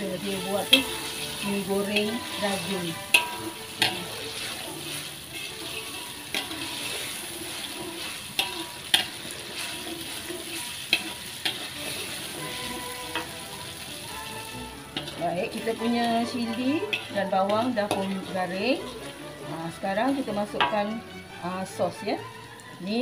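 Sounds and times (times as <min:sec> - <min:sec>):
metal spatula scraping a wok: 0:00.0 - 0:23.0
paste sizzling in hot oil: 0:00.0 - 0:23.0.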